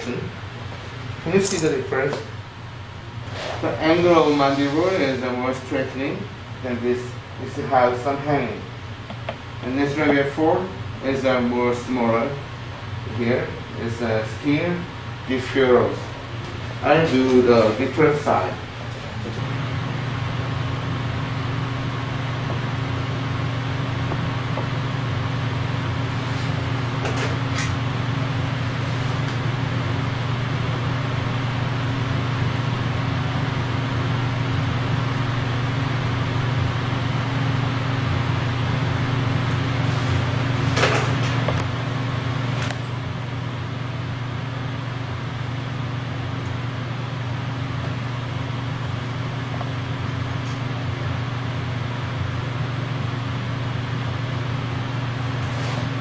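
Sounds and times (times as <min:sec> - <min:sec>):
mechanical hum: 0:00.0 - 0:56.0.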